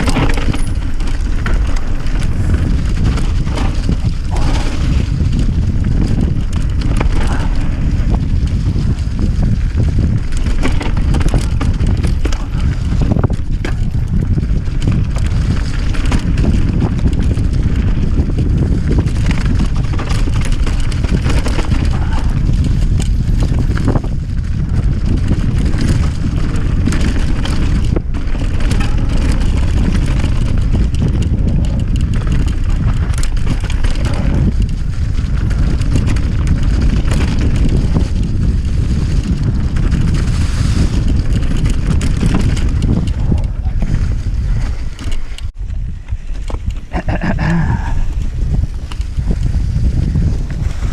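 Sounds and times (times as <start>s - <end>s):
clicks and rattles: 0.0s - 49.6s
wind buffeting microphone: 0.0s - 50.9s.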